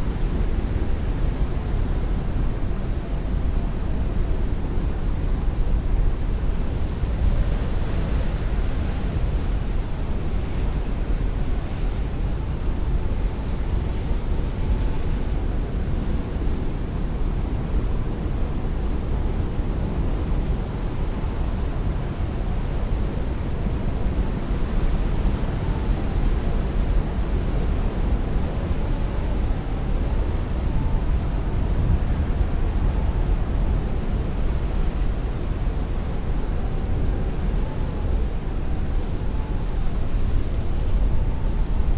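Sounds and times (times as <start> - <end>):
strong wind: 0.0 - 41.9.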